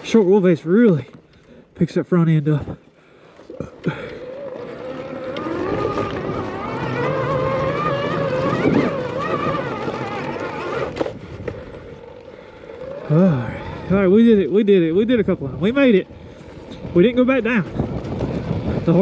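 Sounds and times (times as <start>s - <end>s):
electric motorbike motor whining: 3.3s - 19.0s.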